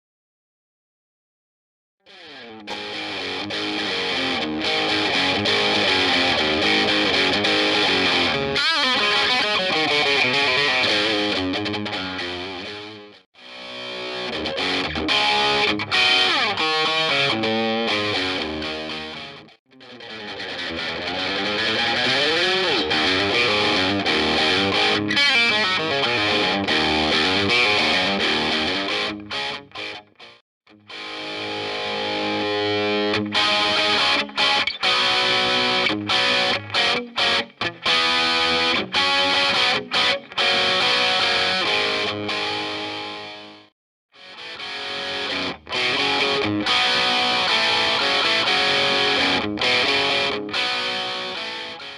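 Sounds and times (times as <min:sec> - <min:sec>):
distorted electric guitar: 0:02.1 - 0:51.9.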